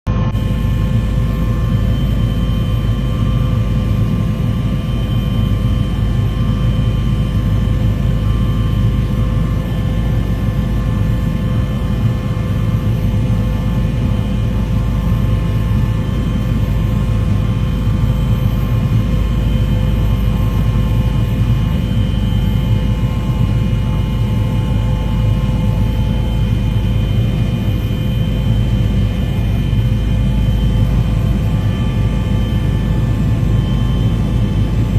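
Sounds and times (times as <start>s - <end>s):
aircraft engine drone: 0.1s - 34.9s.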